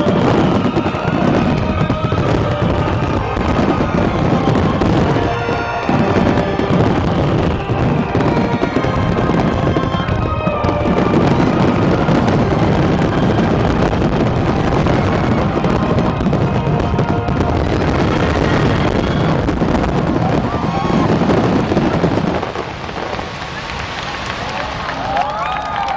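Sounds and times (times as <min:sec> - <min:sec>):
music playing: 0:00.0 - 0:25.2
fireworks bursting and crackling: 0:00.0 - 0:25.9.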